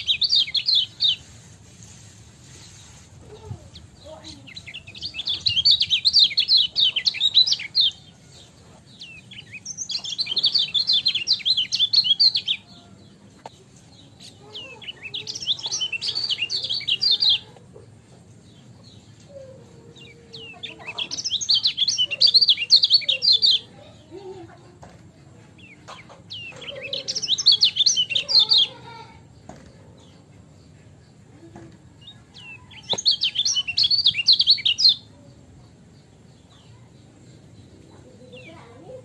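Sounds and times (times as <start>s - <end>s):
bird twittering song: 0.0s - 1.4s, 2.6s - 24.2s, 25.3s - 39.0s.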